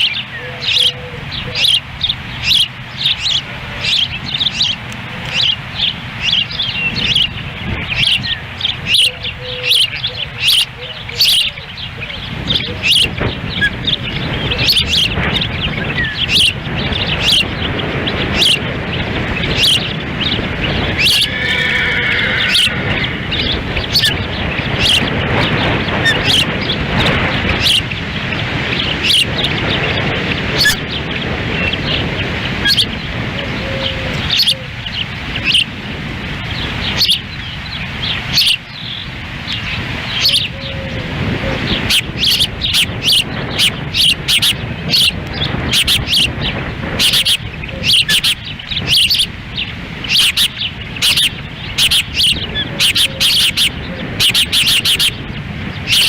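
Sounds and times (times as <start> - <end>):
ospreys chirping: 0.0 - 56.0
wind rumble on microphone: 0.0 - 56.0.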